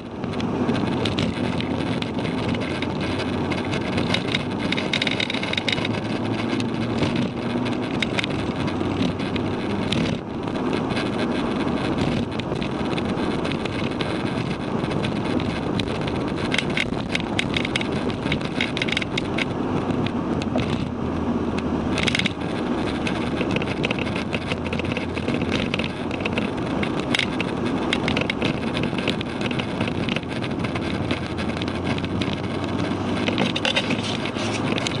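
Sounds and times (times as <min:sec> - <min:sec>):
car engine running: 0:00.0 - 0:35.0
road and wind noise: 0:00.0 - 0:35.0
sharp clicks and knocks: 0:00.0 - 0:35.0.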